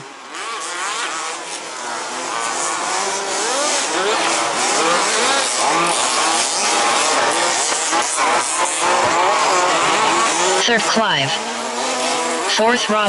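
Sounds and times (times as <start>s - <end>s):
rc buggy engines racing: 0.0s - 13.0s.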